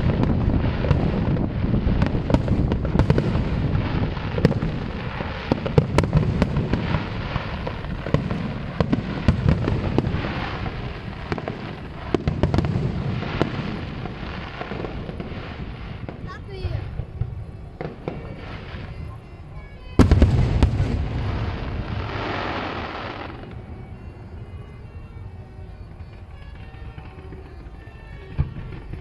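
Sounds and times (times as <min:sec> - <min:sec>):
fireworks booming: 0:00.0 - 0:29.0
fireworks cracking: 0:00.0 - 0:29.0.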